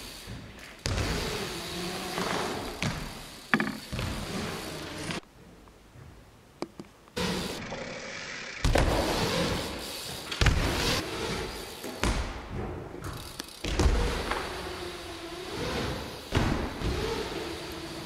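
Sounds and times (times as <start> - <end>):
bike tyres rolling on ramps: 0.0 - 5.3, 7.2 - 18.0.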